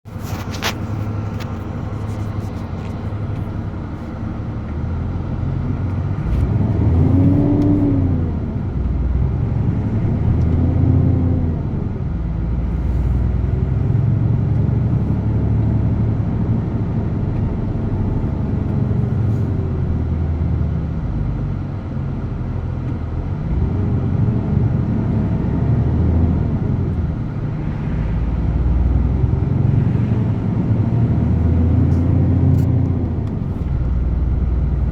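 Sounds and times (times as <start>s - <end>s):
truck diesel engine rumbling: 0.0s - 34.9s.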